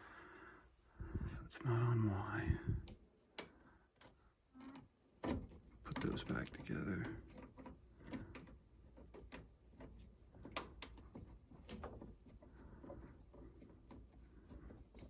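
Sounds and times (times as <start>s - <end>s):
faint clicks handling wires: 2.7s - 15.0s.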